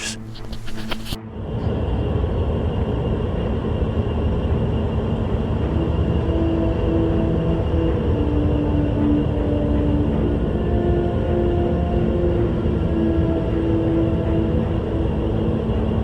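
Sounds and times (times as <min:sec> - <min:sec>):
dark droning music: 0:00.0 - 0:16.0.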